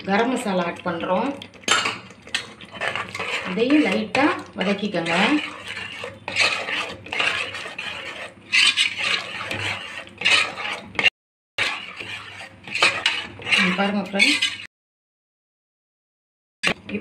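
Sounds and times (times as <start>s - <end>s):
metal spatula scraping pot: 0.1s - 14.7s.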